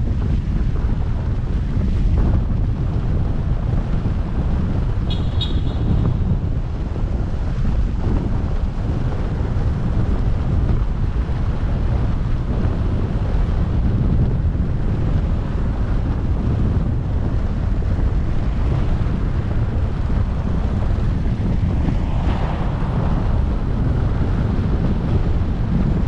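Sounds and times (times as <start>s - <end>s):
wind buffeting microphone: 0.0s - 26.0s
road noise: 0.1s - 26.0s.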